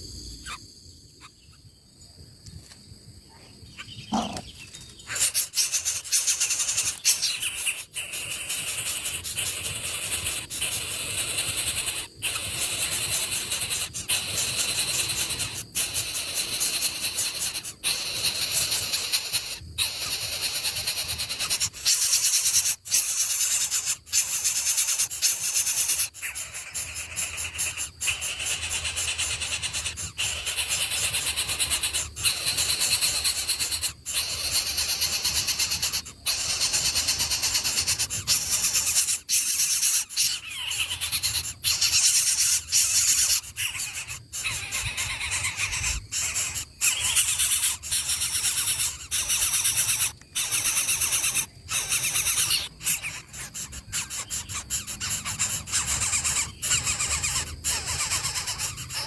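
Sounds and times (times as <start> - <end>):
nestling birds squealing: 0.0 - 1.6, 3.7 - 59.0.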